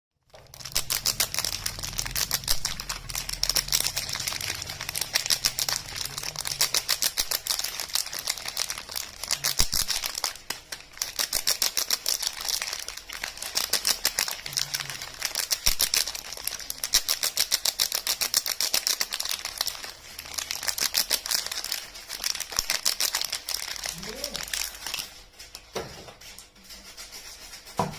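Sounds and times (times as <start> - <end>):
soap packaging crackling: 0.2 - 25.3.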